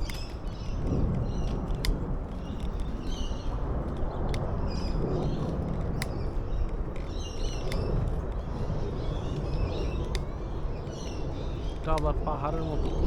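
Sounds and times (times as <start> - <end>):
small birds chirping: 0.0 - 13.0
wind rumble: 0.0 - 13.0.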